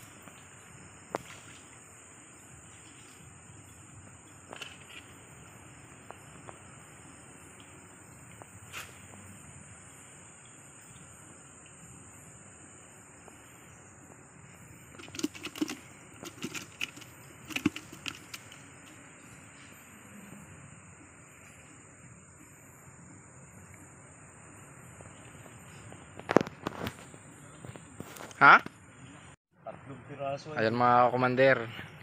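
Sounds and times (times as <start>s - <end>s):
crickets chirring: 0.0s - 32.0s.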